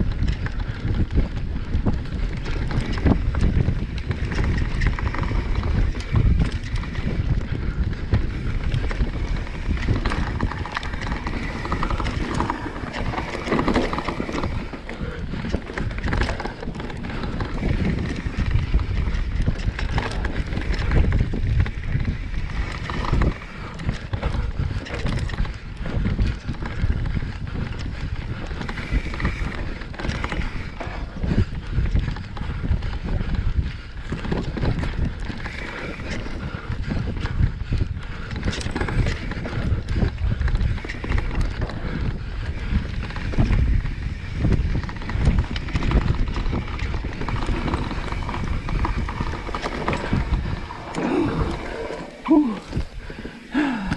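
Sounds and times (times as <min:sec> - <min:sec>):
bike rattling: 0:00.0 - 0:53.9
bike tyres clattering over rocks: 0:00.0 - 0:53.9
wind noise on microphone: 0:00.0 - 0:53.9.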